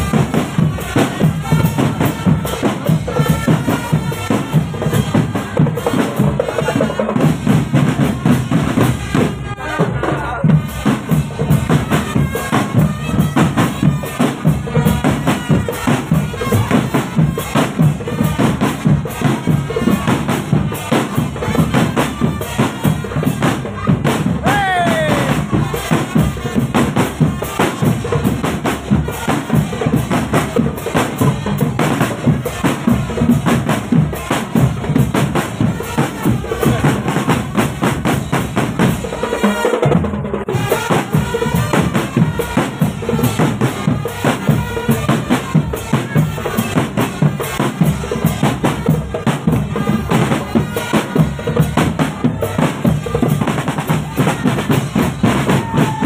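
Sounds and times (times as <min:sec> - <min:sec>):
snare and bass drums beat: 0:00.0 - 0:56.0.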